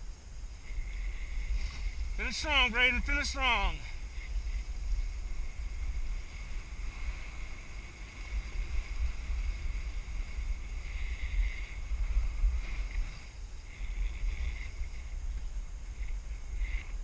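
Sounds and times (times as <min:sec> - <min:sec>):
skis scraping over packed snow: 0:00.0 - 0:17.0
wind rushing over microphone: 0:00.0 - 0:17.0.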